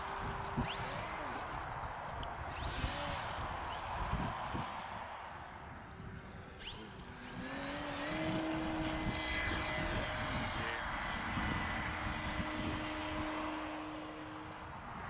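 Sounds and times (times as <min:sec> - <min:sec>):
model aeroplane motor whine: 0:00.0 - 0:15.0.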